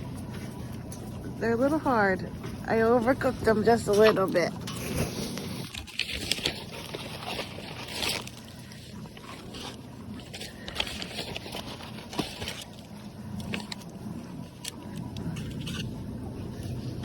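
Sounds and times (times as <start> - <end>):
cows crunching cookies: 2.4 - 17.0.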